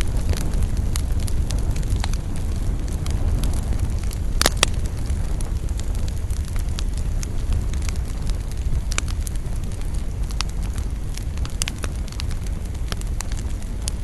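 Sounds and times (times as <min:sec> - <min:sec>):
bonfire rumbling: 0:00.0 - 0:14.0
fire crackles and pops: 0:00.0 - 0:14.0.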